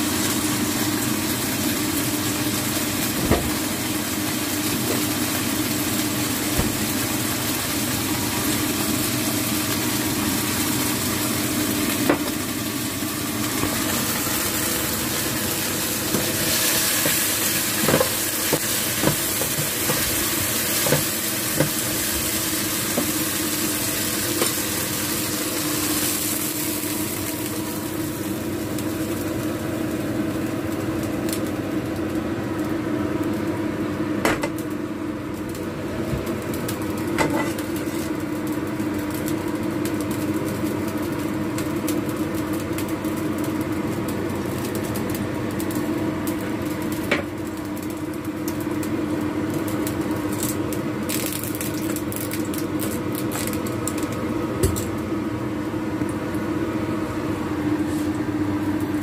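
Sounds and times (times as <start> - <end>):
kitchen extractor fan humming: 0.0 - 59.0.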